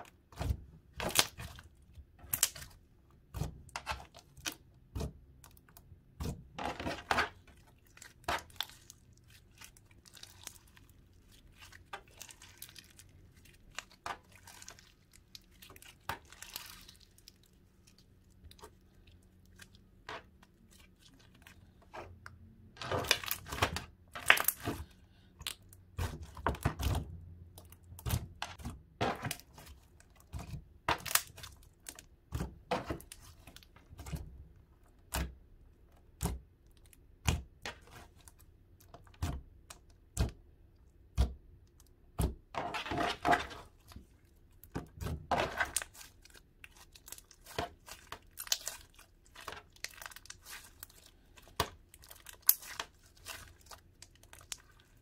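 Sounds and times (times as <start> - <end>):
slime popping and squelching: 0.2 - 34.0, 43.5 - 55.0.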